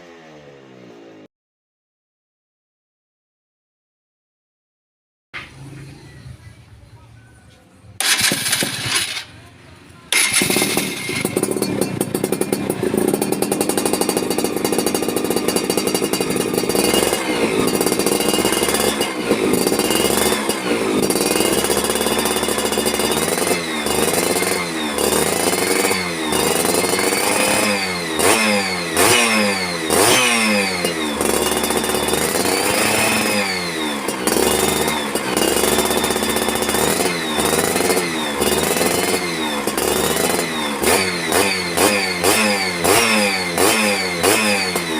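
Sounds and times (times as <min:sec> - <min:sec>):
two-stroke engine idling and revving: 0:00.0 - 0:01.3, 0:07.8 - 0:44.9.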